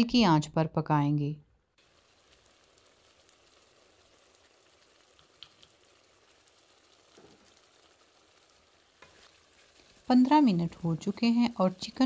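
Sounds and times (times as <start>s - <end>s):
pot simmering hiss: 1.8s - 12.0s.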